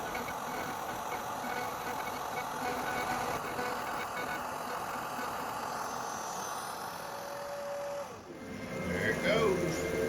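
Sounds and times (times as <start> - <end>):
cnc router spindle running: 0.0 - 10.0.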